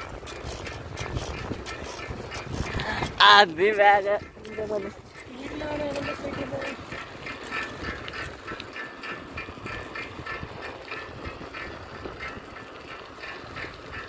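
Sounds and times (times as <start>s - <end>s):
bicycle squeaking rhythmically: 0.0s - 14.0s
tyres on road: 0.0s - 14.0s
wind rumbling on microphone: 0.0s - 14.0s.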